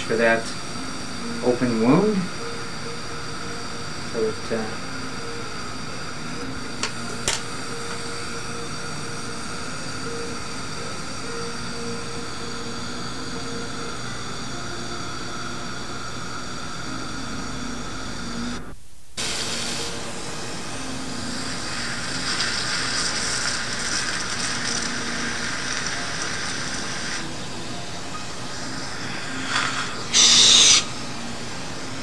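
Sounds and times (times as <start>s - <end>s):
dental equipment whirring: 0.0s - 32.0s.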